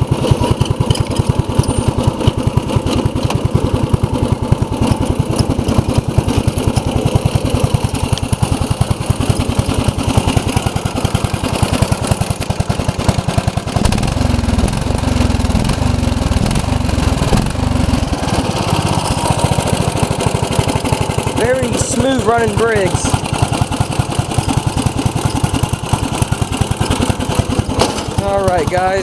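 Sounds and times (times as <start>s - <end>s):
riding mower engine running: 0.0s - 29.0s.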